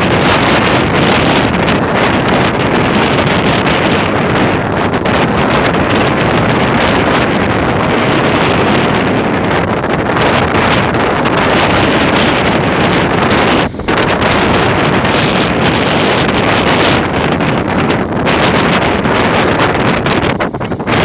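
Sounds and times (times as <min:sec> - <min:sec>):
ocean rushing: 0:00.0 - 0:21.0
wind buffeting microphone: 0:00.0 - 0:21.0.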